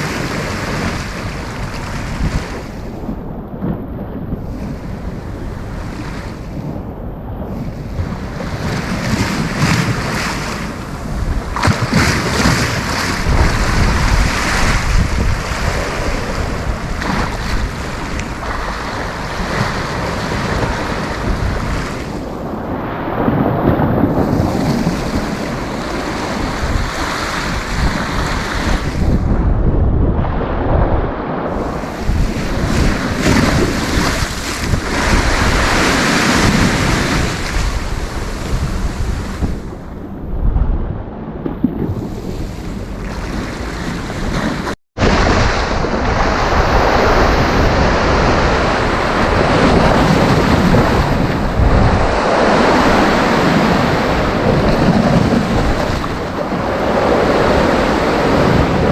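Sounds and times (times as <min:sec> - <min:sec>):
sea waves breaking: 0:00.0 - 0:40.6, 0:41.2 - 0:58.9
wind rumbling on microphone: 0:00.0 - 0:58.9.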